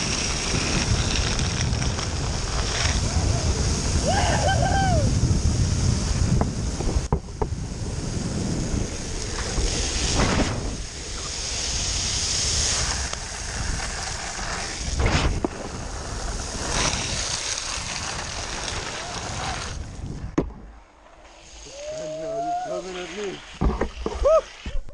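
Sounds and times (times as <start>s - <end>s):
wheels rolling through water: 0.0s - 20.3s
wind on microphone: 0.0s - 20.7s.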